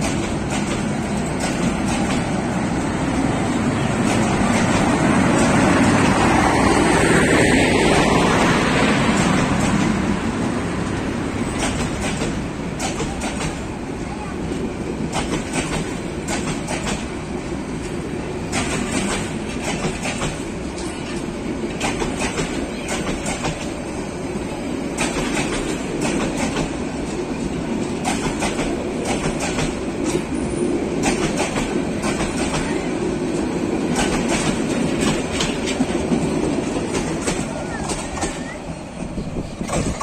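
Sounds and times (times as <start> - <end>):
wheels clicking over rail joints: 0.0 - 6.8, 10.8 - 13.8, 15.0 - 17.2, 17.8 - 23.8, 24.9 - 40.0
train rumbling past: 0.0 - 40.0.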